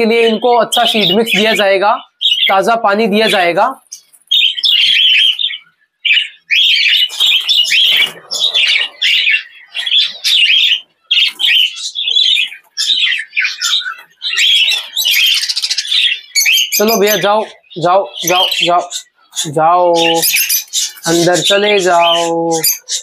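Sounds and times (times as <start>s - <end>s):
budgerigars chirping: 0.0s - 23.0s.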